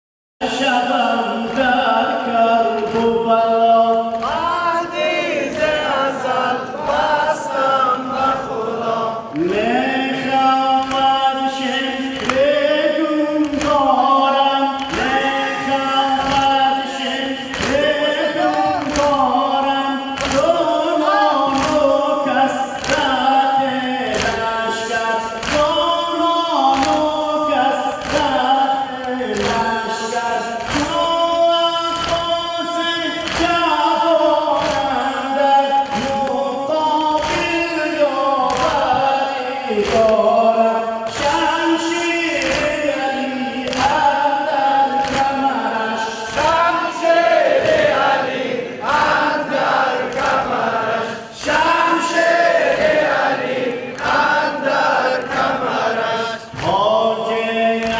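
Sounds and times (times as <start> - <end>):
lament sung through sound system: 0.4 - 57.9
many voices singing along: 0.4 - 57.9.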